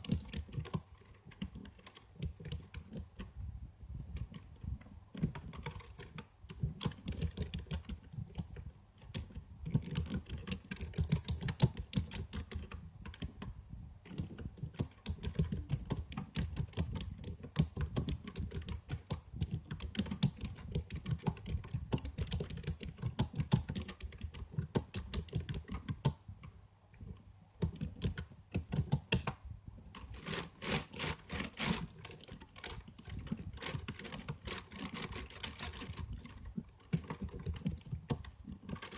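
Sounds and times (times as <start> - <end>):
typing on computer keyboard: 0.0 - 3.3, 4.1 - 26.6, 27.6 - 38.9.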